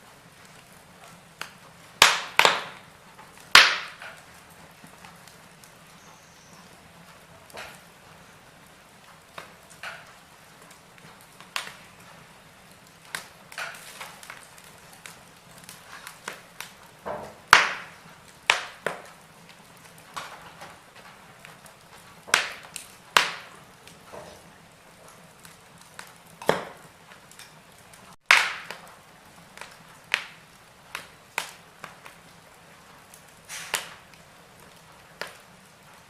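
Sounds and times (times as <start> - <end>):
faint fire hiss: 0.0 - 36.0
wood fire crackling and popping: 0.0 - 36.0.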